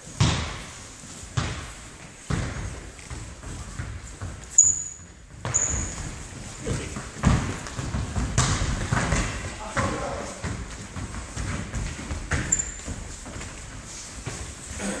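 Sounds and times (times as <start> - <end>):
footsteps: 0.0 - 15.0
shoes squeaking on floor: 0.9 - 15.0.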